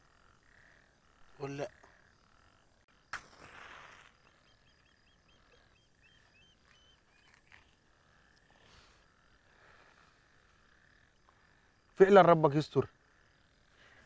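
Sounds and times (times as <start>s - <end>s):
frogs and insects calling: 0.0s - 14.0s.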